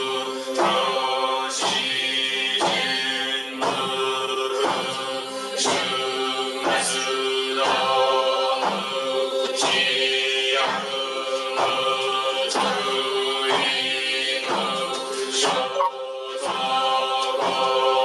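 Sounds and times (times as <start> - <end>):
group chanting on one pitch: 0.0 - 18.0.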